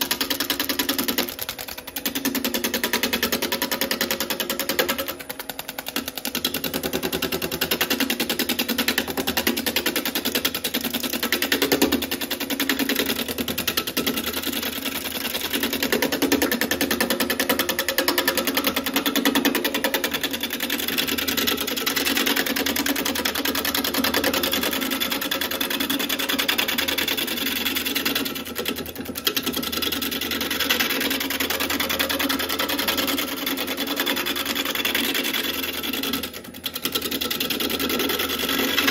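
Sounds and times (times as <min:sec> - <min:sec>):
gouge chattering on lathe log: 0:00.0 - 0:38.9.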